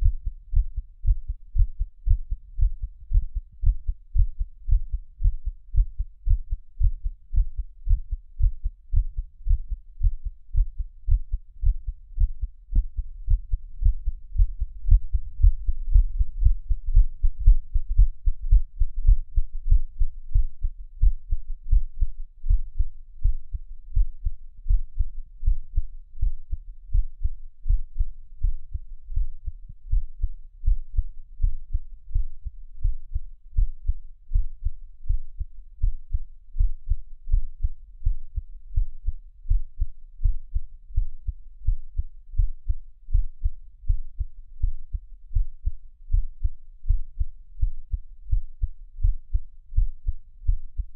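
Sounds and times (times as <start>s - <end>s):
heartbeat thumps: 0.0s - 50.9s.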